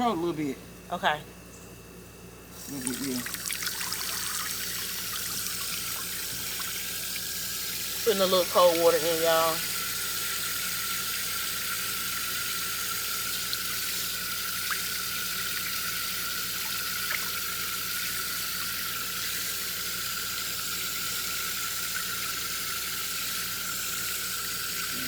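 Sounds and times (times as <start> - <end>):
hose water splashing into tub: 2.6 - 25.0.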